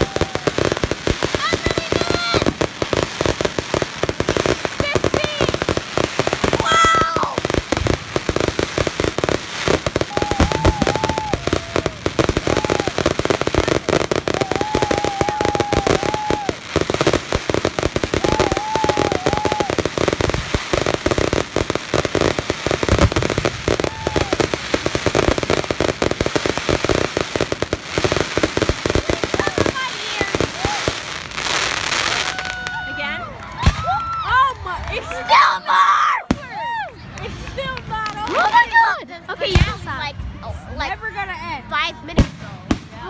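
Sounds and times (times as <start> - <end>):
fireworks crackles and bangs: 0.0 - 43.0.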